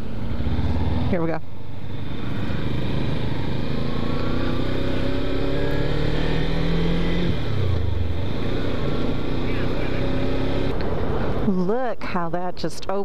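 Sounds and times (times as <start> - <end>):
motorcycle engine accelerating: 0.0 - 11.4.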